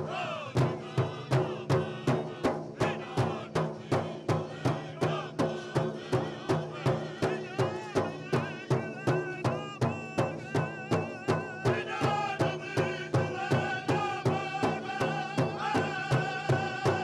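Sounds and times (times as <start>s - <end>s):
big drum steady beat: 0.0s - 17.0s
drum group singing: 0.0s - 17.0s.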